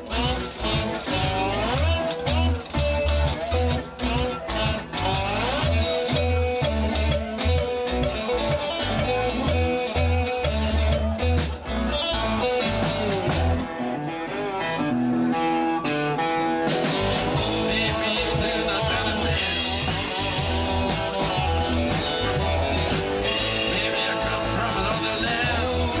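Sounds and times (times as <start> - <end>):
bass guitar: 0.0 - 26.0
cigar box guitars riff: 0.0 - 26.0
drums: 0.0 - 26.0.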